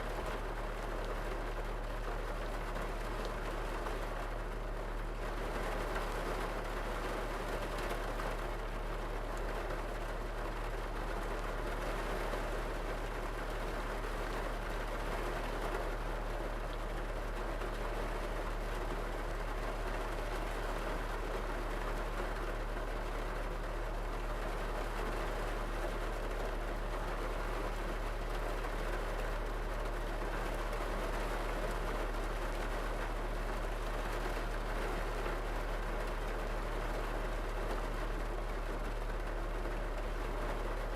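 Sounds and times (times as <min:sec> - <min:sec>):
rain on car roof: 0:00.0 - 0:40.9.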